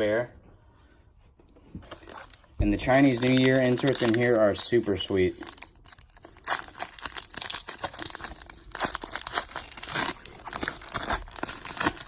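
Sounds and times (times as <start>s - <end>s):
foil wrapper crinkling and tearing: 1.9s - 12.0s.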